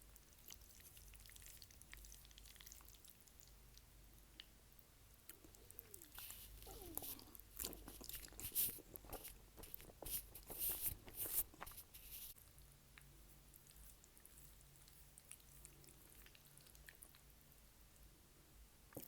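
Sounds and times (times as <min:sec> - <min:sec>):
person chewing food: 0:00.1 - 0:17.4.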